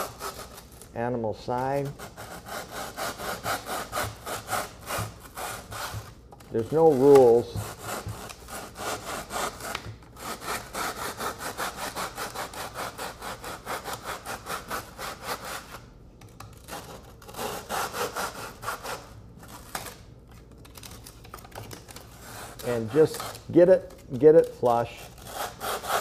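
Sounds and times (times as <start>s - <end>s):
hand saw cutting foam: 0.0s - 0.7s, 1.6s - 15.8s, 16.6s - 19.6s, 22.1s - 26.0s.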